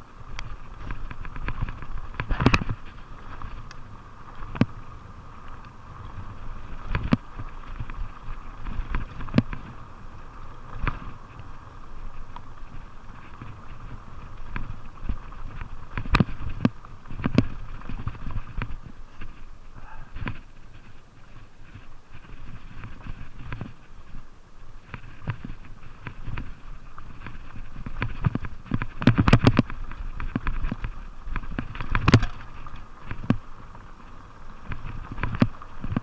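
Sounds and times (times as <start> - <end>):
bike clunking and rattling: 0.0 - 36.0
bike tyres rumbling on dirt: 0.0 - 36.0.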